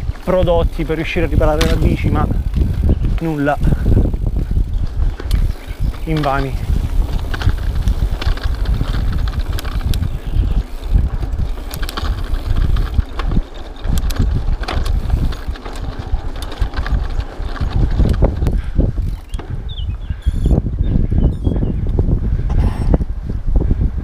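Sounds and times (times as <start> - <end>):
bike clicks and rattles: 0.0 - 23.9
wind buffeting microphone: 0.0 - 24.0.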